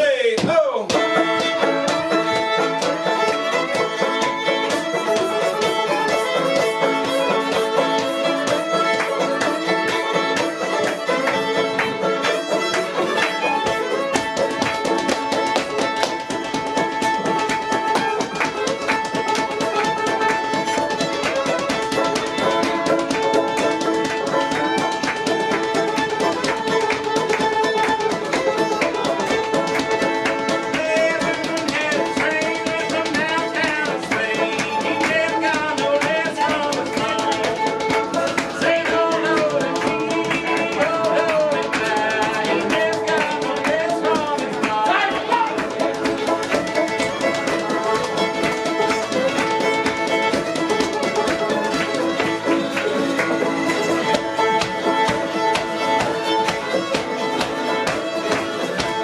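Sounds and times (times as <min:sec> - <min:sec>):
fiddle melody: 0:00.8 - 0:59.0
fast picked strings: 0:00.9 - 0:59.0.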